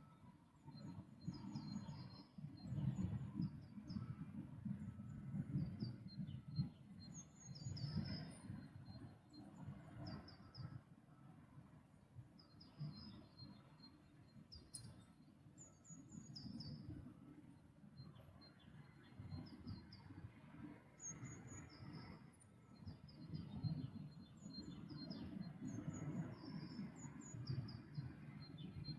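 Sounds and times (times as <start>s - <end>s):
small songbirds singing: 0.6s - 10.8s, 12.4s - 17.0s, 18.0s - 28.9s.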